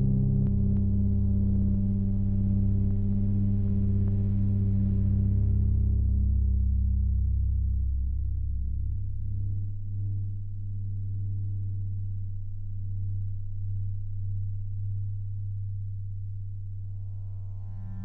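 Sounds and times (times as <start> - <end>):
low steady drone tone: 0.0 - 18.0.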